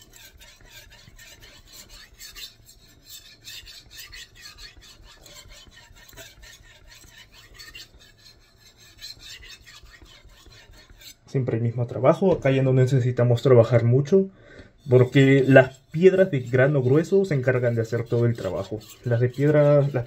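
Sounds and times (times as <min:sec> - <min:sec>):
knife rasping on whetstone: 0:00.0 - 0:11.9, 0:14.7 - 0:20.0.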